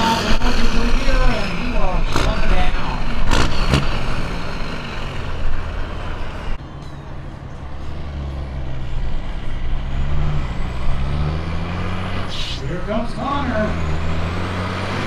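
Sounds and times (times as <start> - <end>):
diesel truck engine under load: 0.0 - 15.0
quieter diesel truck engine: 0.0 - 15.0.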